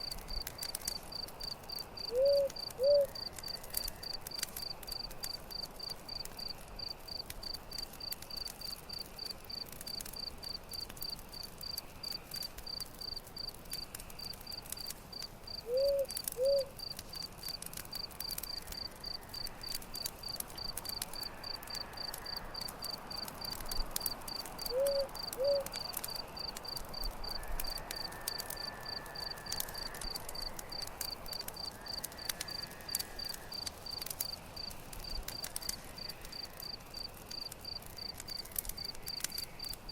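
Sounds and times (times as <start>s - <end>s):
campfire crackling: 0.0s - 39.9s
cricket chirping: 0.0s - 39.9s.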